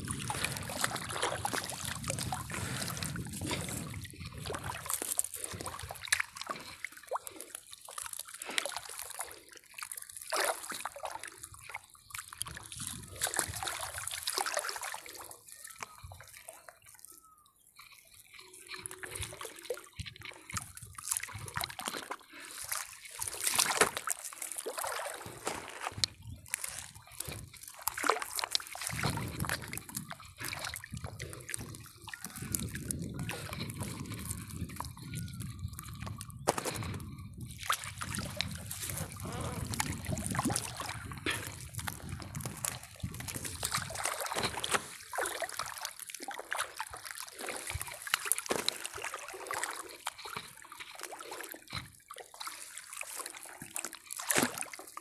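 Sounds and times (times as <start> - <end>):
water dripping off fishing net: 0.0 - 17.2, 17.8 - 55.0.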